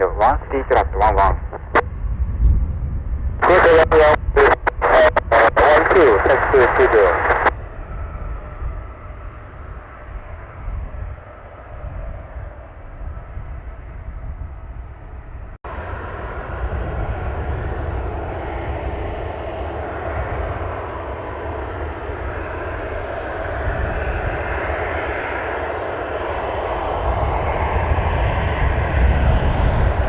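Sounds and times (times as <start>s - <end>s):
jet engines running: 0.0s - 30.0s
wind rumble on microphone: 0.0s - 30.0s.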